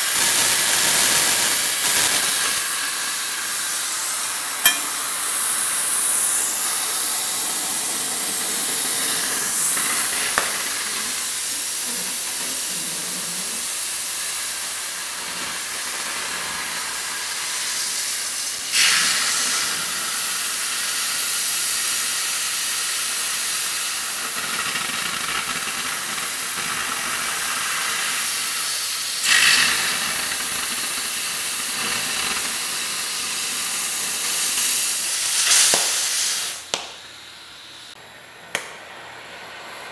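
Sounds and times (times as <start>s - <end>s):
cutting torch hissing: 0.0s - 38.0s.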